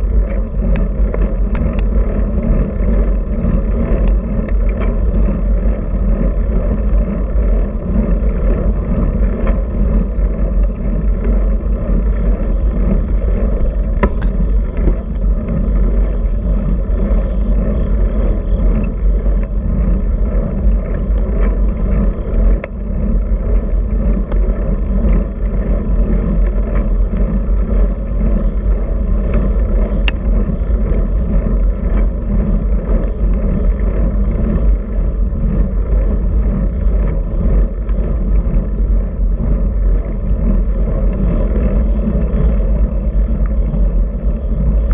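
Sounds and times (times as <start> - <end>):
tyre road noise on asphalt: 0.0 - 44.9
wind rush: 0.0 - 44.9.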